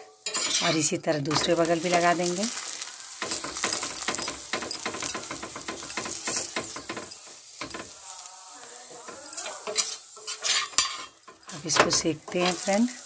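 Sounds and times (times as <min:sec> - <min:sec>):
oil sizzling and crackling: 0:00.0 - 0:13.0.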